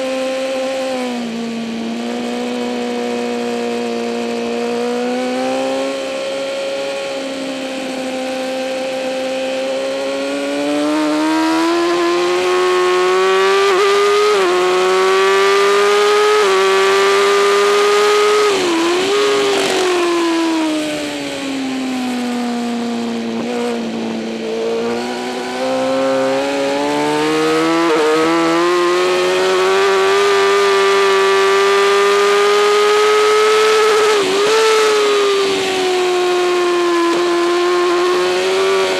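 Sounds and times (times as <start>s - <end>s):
motorcycle engine revving: 0.0s - 38.9s
rushing wind noise: 1.2s - 38.9s.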